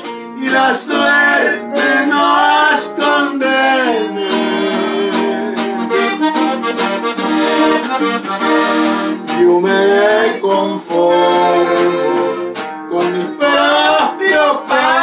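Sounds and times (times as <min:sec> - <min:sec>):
person singing: 0:00.0 - 0:06.2, 0:09.2 - 0:15.0
button accordion melody: 0:00.0 - 0:15.0
guitar accompaniment: 0:00.0 - 0:15.0.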